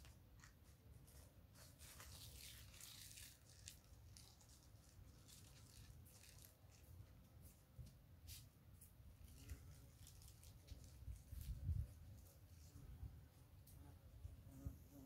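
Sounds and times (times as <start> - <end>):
faint rustling and scratching: 0.0 - 15.0.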